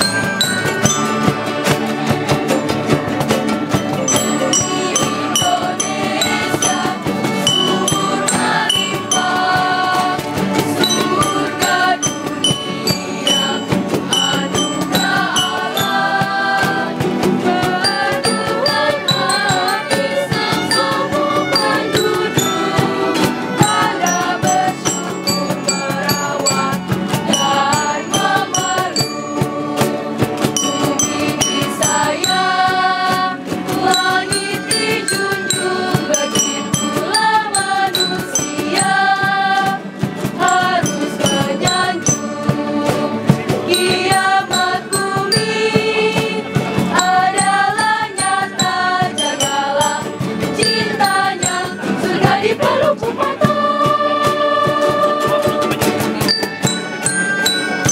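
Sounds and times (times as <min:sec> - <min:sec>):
choir of young voices singing: 0:00.0 - 0:57.9
guitars: 0:00.0 - 0:57.9
xylophones: 0:00.0 - 0:57.9.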